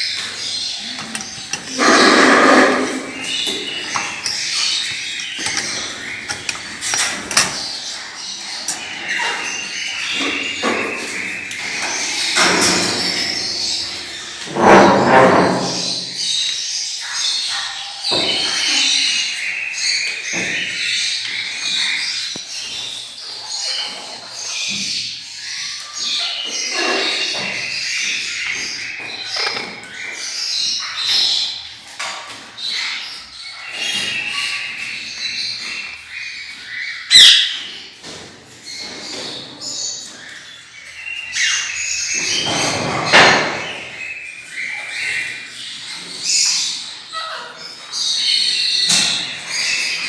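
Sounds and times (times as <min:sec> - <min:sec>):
parrots chirping and squawking: 0:00.0 - 0:50.0.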